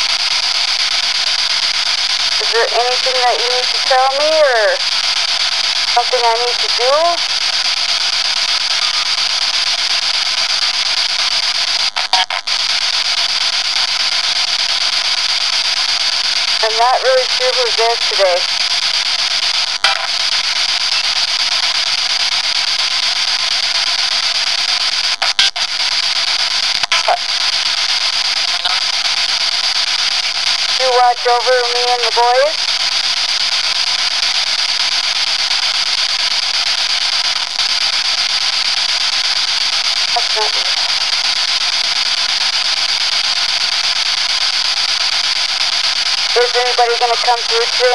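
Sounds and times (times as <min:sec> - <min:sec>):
radio static hiss: 0:00.0 - 0:47.9.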